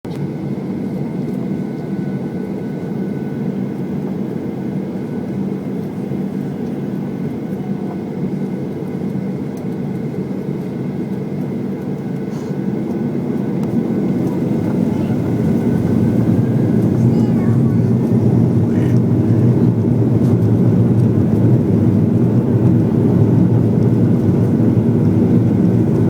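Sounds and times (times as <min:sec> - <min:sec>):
jet engine cabin rumble: 0:00.4 - 0:26.0.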